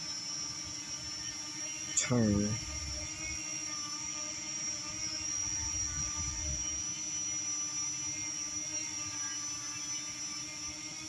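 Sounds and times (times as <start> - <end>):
drone propellers whining hum: 0.0 - 11.0.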